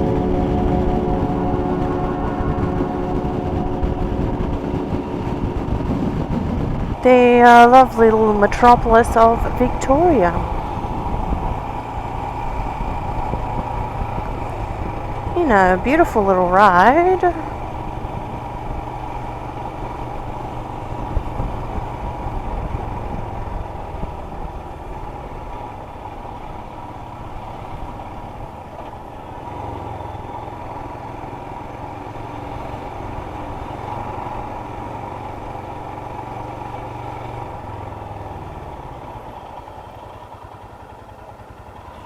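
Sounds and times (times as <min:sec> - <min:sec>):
low wind rumble: 0:00.0 - 0:41.9
motorcycle engine running: 0:00.0 - 0:42.0.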